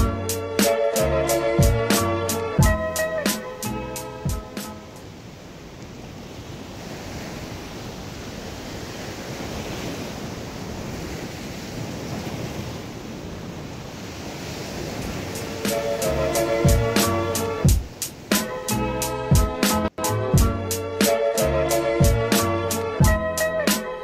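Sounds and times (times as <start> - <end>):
ocean surf breaking on beach: 0.0 - 20.2.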